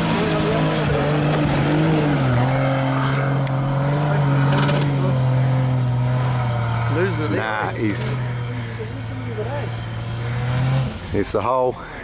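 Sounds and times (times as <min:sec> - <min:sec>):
off-road vehicle engine under load: 0:00.0 - 0:12.0
wheels spinning and spraying sand: 0:00.0 - 0:12.0.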